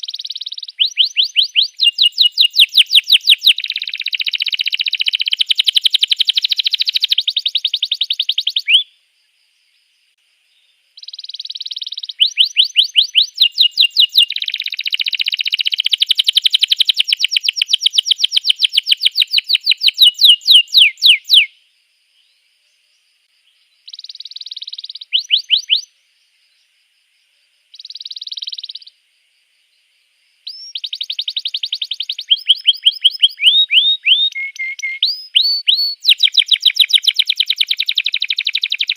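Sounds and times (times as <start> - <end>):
canary singing rapid trills: 0.0 - 8.9, 11.0 - 21.5, 23.8 - 25.9, 27.8 - 28.9, 30.5 - 38.9.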